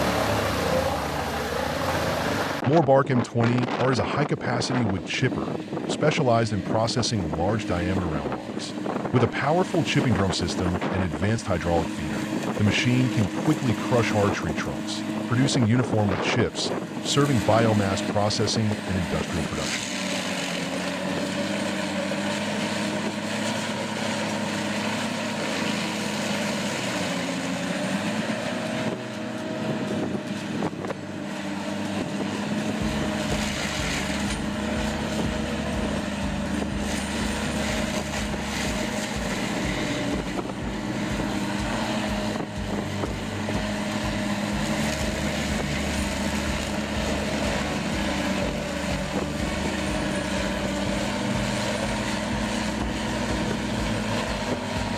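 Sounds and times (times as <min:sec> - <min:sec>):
wood chipper running: 0:00.0 - 0:02.8, 0:03.4 - 0:54.9
low even pulsing: 0:00.0 - 0:54.9.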